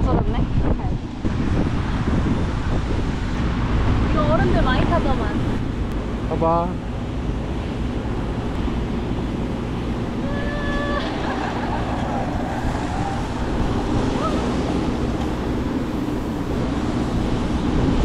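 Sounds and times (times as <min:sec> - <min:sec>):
road traffic: 0:00.0 - 0:18.0
wind on microphone: 0:00.0 - 0:18.0.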